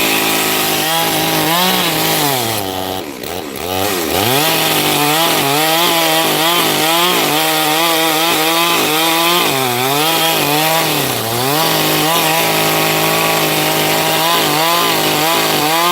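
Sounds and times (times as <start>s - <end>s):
chainsaw cutting wood: 0.0s - 15.9s.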